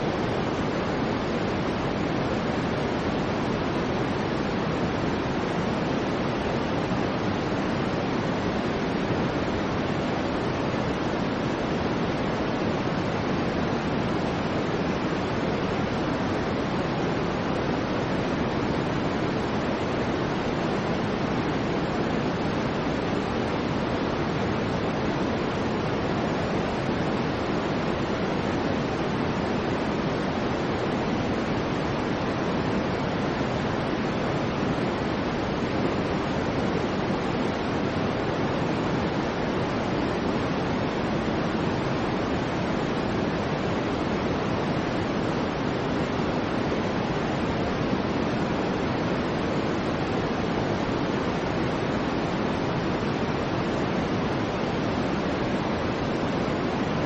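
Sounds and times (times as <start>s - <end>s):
steady rushing hiss: 0.0s - 57.0s.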